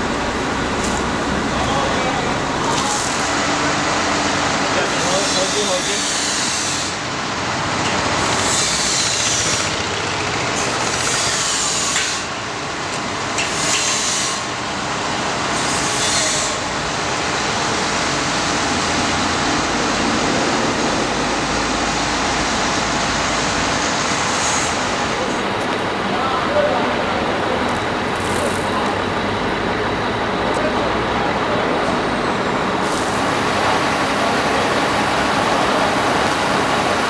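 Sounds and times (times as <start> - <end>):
crane running: 0.0 - 37.0.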